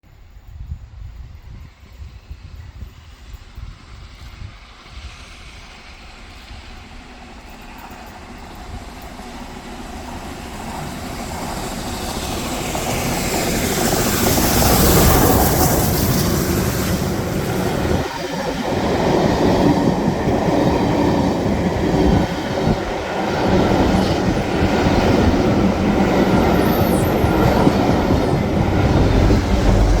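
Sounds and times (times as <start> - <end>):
steam locomotive passing at speed: 0.1 - 30.0
train wheels clickety-clack: 0.4 - 30.0.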